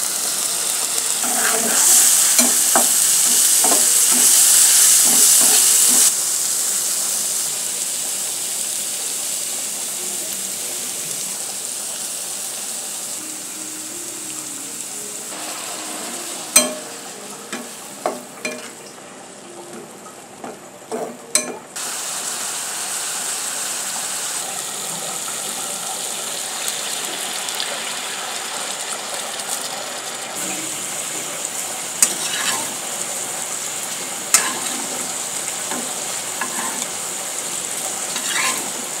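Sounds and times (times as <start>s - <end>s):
onions sizzling in hot oil: 0.0s - 39.0s
prawns frying in bubbling oil: 0.0s - 39.0s.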